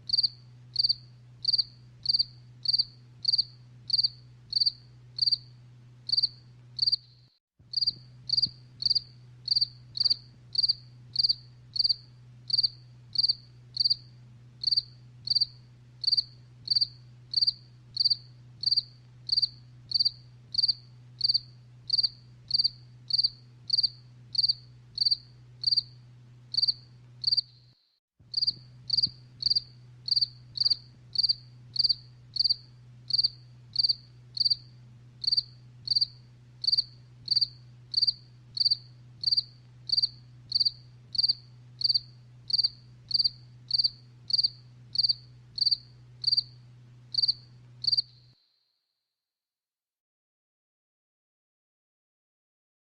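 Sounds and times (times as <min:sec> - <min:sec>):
faint low hum: 0:00.0 - 0:48.4
cricket chirping: 0:00.1 - 0:05.5, 0:06.1 - 0:27.7, 0:28.3 - 0:48.5.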